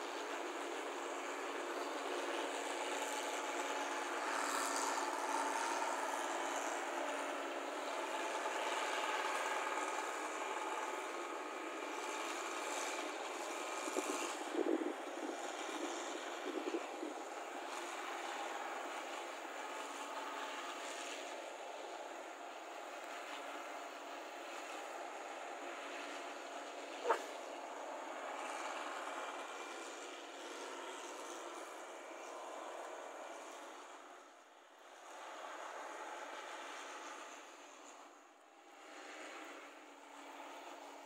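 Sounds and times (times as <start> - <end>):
combine harvester droning: 0.0 - 38.1.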